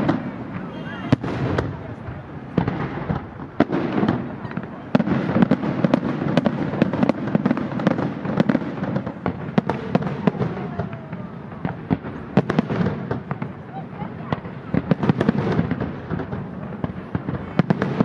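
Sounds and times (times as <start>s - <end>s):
fireworks rumble: 0.0s - 18.0s.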